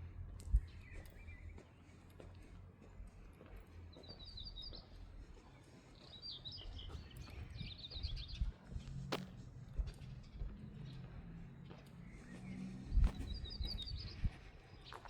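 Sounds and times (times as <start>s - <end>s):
low town rumble: 0.0s - 15.0s
songbird chirping: 0.4s - 15.0s.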